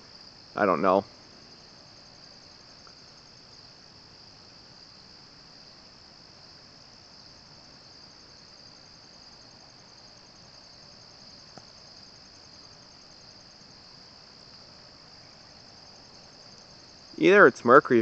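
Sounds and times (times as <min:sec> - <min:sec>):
crickets chorus: 0:00.0 - 0:18.0.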